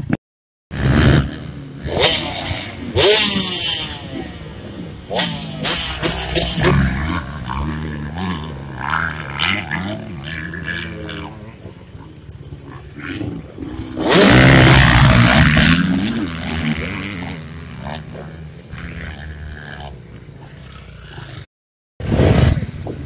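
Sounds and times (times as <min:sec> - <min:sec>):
motocross bike engines revving: 0:00.0 - 0:23.0
bike passing close accelerating: 0:00.8 - 0:21.5.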